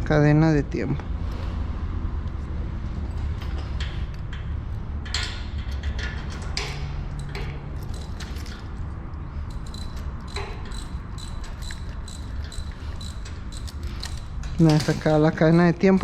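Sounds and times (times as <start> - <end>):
steady low hum: 0.0 - 16.0
metallic clicks and scrapes: 1.2 - 16.0.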